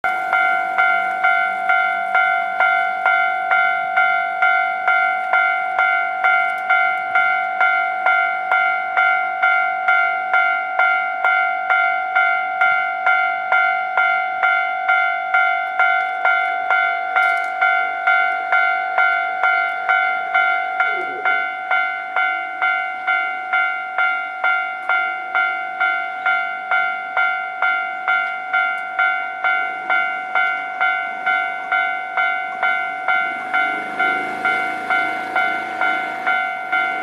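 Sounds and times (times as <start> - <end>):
level-crossing warning bell ringing: 0.0 - 37.0.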